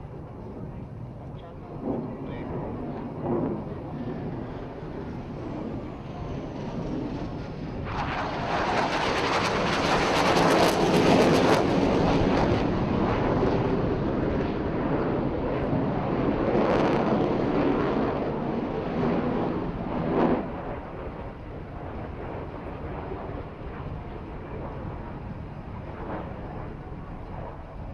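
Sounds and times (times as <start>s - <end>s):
jet aircraft flying past: 0.0s - 27.9s.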